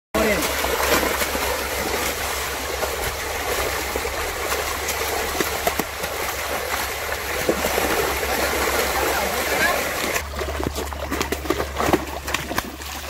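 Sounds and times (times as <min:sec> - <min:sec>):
fish thrashing and splashing: 0:00.2 - 0:13.0
sharp water slaps: 0:00.2 - 0:13.0.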